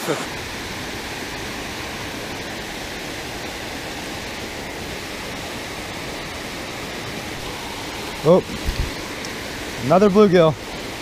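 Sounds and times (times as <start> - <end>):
water rushing down spillway: 0.0 - 11.0.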